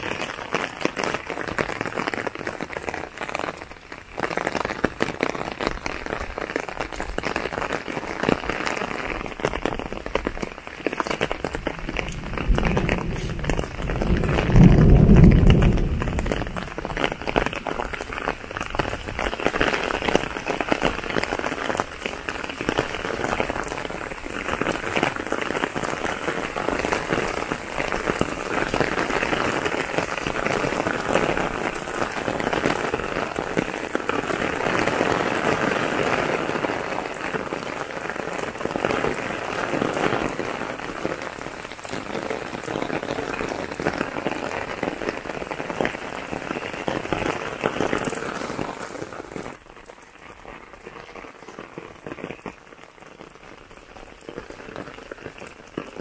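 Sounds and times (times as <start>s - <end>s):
rain on a paved path and trees: 0.0s - 56.0s.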